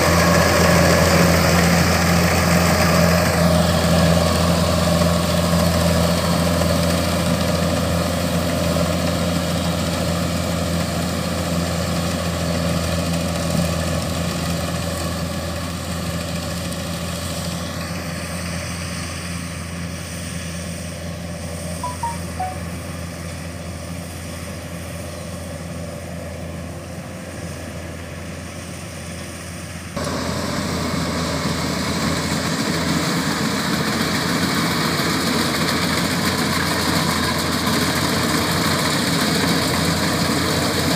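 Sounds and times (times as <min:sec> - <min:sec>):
combine harvester engine hum: 0:00.0 - 0:40.9.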